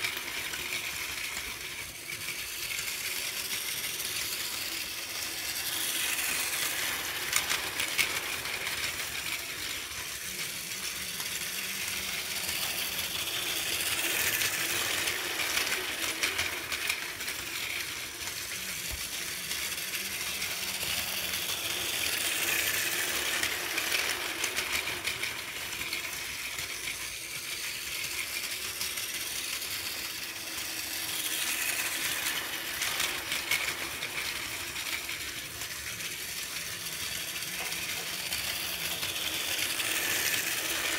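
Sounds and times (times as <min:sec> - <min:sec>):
toy train motor whirring: 0:00.0 - 0:40.9
wheels clicking over track joints: 0:00.0 - 0:40.9.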